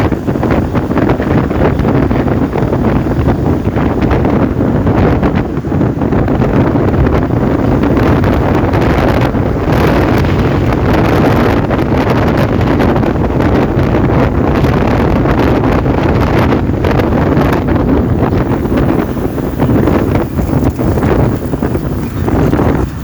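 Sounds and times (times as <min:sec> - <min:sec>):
motorcycle running: 0:00.0 - 0:23.0
wind buffeting microphone: 0:00.0 - 0:23.0.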